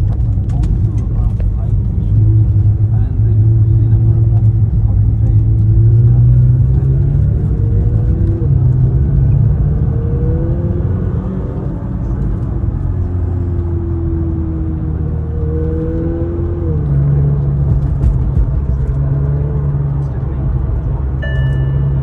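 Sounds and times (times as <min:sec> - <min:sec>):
car engine running: 0:00.0 - 0:22.0
low road rumble: 0:00.0 - 0:22.0.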